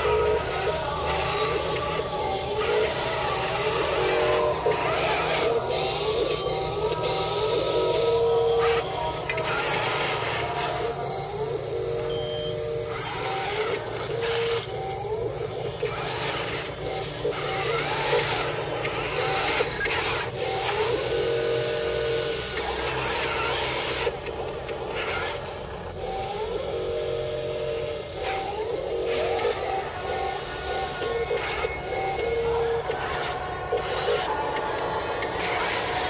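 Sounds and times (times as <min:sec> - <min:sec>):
electric motors whining: 0:00.0 - 0:36.0.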